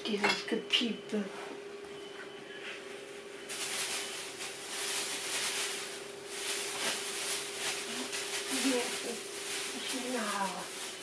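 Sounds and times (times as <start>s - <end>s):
rustling and handling noise: 1.3s - 11.0s.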